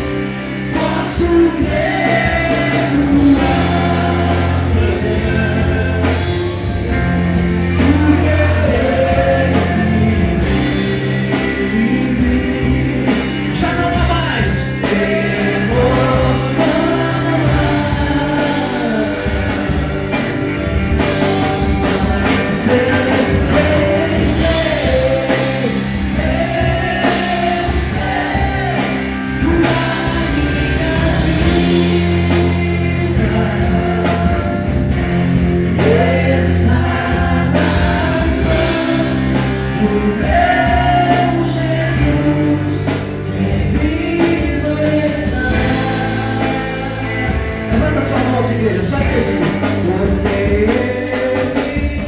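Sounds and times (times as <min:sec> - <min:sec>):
live band playing with singing: 0:00.0 - 0:52.0.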